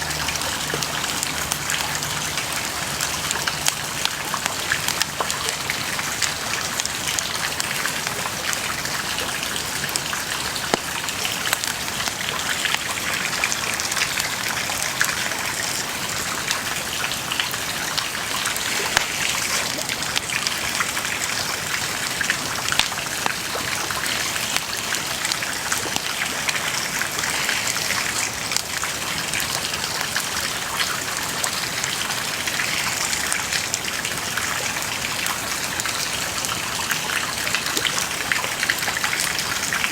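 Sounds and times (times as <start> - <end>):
wood bonfire crackling: 0.0 - 39.9.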